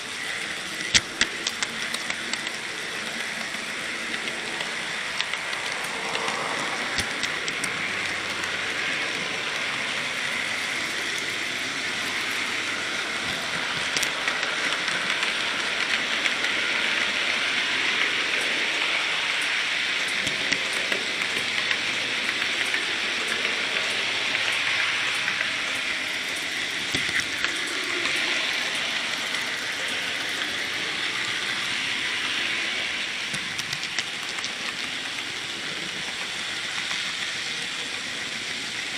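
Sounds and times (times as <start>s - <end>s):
model train rattling hiss: 0.0s - 38.9s.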